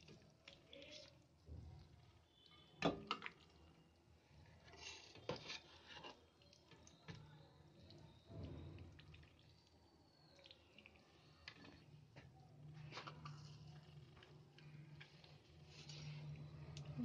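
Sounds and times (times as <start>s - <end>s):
wet squishing of curry: 0.0s - 17.0s.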